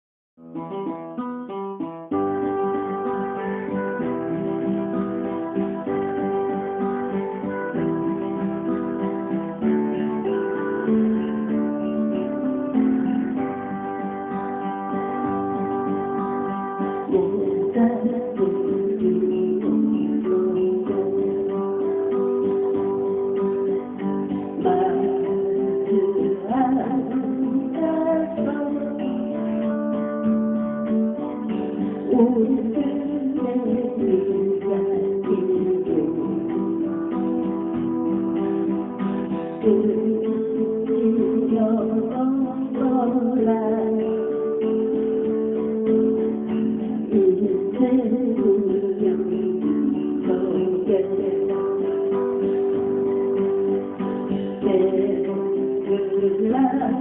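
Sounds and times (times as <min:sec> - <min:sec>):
acoustic guitar strummed and picked: 0:00.4 - 0:57.0.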